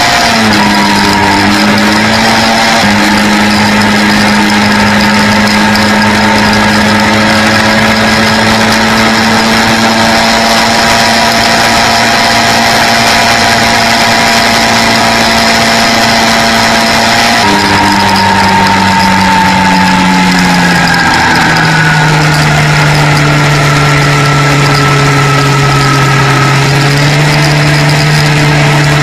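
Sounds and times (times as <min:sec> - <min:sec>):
quad engine running: 0:00.0 - 0:29.0
road noise: 0:00.0 - 0:29.0.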